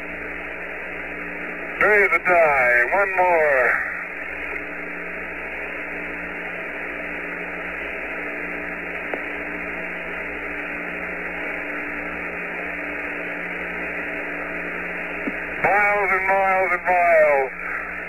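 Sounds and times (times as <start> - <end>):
radio static hiss and hum: 0.0 - 18.0.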